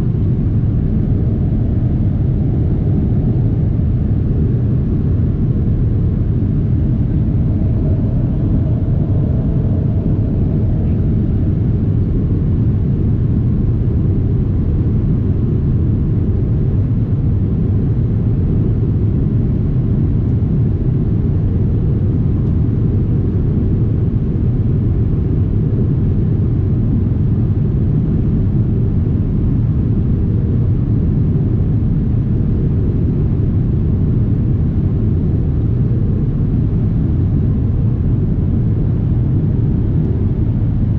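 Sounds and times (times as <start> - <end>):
airplane cabin engine roar: 0.0 - 40.9.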